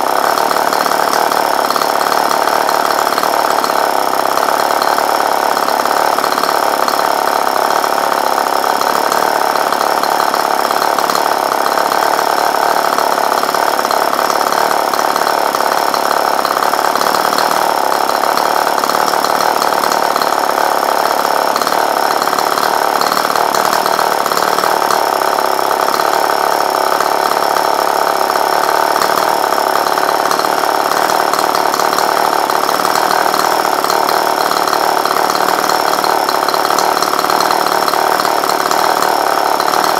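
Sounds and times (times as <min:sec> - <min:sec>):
two-stroke engine running steadily: 0:00.0 - 0:39.9.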